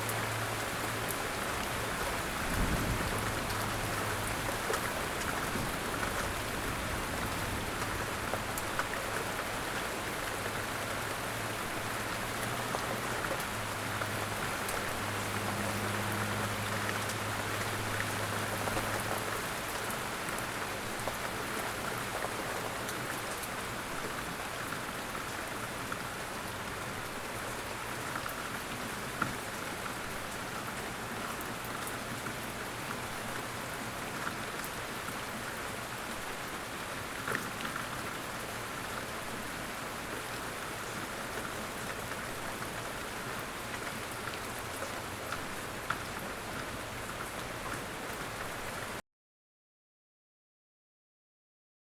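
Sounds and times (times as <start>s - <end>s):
light rain falling: 0.0s - 49.0s.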